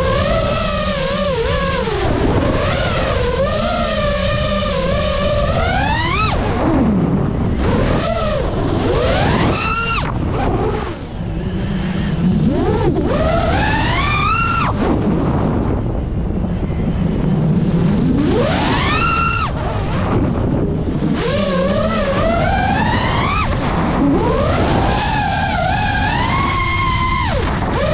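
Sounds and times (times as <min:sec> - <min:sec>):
drone motors whining: 0:00.0 - 0:27.9
wind and propeller rush: 0:00.0 - 0:27.9.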